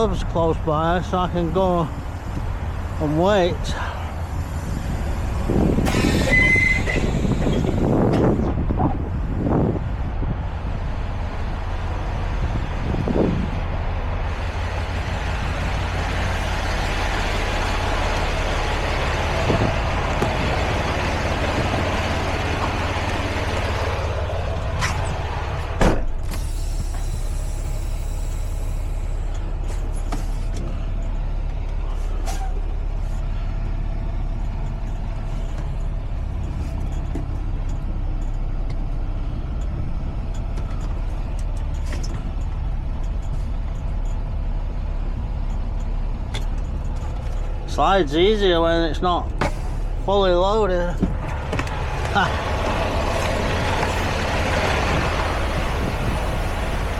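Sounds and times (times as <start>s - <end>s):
diesel truck engine rumbling: 0.0s - 56.9s.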